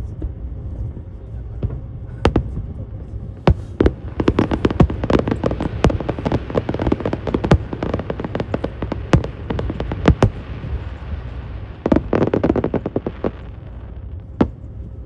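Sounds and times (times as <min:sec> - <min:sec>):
low steady rumble: 0:00.0 - 0:15.0
fireworks bangs and crackling pops: 0:01.6 - 0:02.7, 0:03.4 - 0:15.0.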